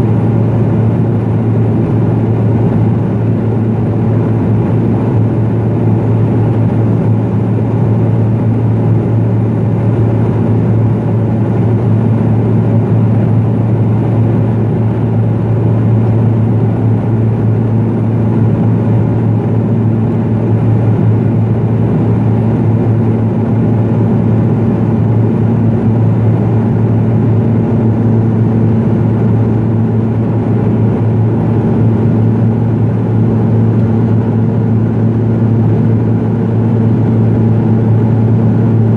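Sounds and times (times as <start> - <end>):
turboprop drone: 0.0 - 38.9.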